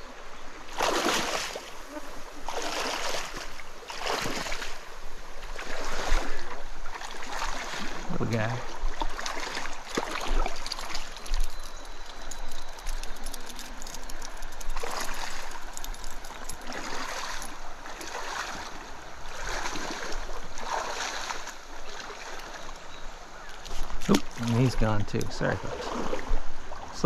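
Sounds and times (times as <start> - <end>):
stream water running and splashing: 0.0 - 27.0.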